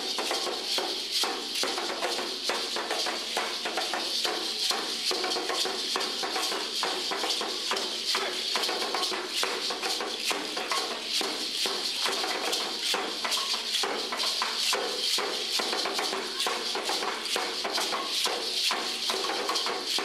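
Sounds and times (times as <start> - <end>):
dance rattles shaken: 0.0 - 20.0.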